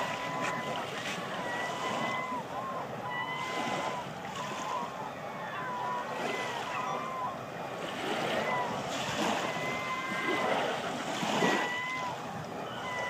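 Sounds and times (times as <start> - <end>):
gulls calling: 0.0 - 13.0
small waves lapping: 0.0 - 13.0.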